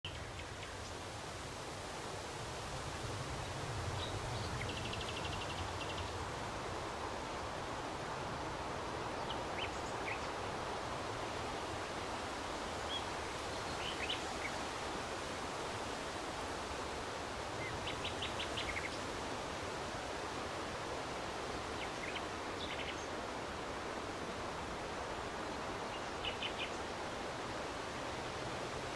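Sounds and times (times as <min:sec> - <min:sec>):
wind rushing through tree leaves: 0:00.0 - 0:28.9.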